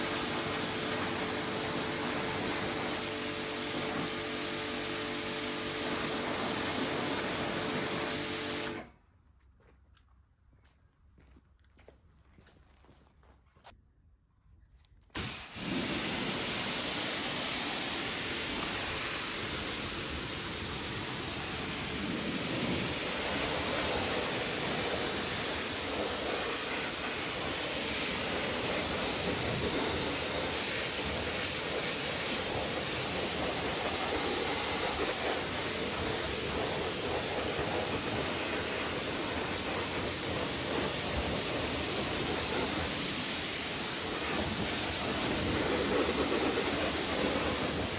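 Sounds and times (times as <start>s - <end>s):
water spraying onto a car: 0.0s - 8.7s, 15.2s - 47.9s.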